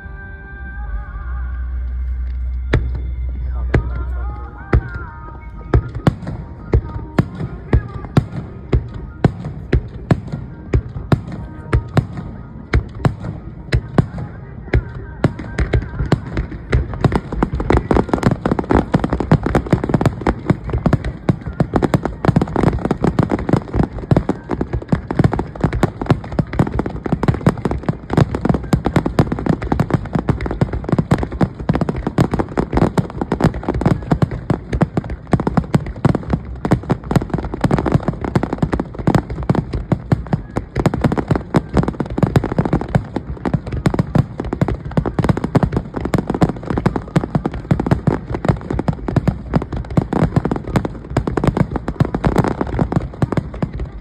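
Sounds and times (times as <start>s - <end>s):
fireworks bangs and crackles: 2.2s - 54.0s.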